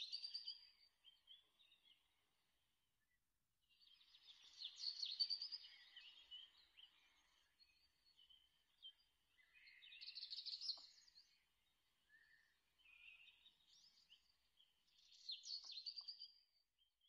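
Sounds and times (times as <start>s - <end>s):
songbird twittering trills: 0.0s - 2.3s, 3.7s - 16.4s.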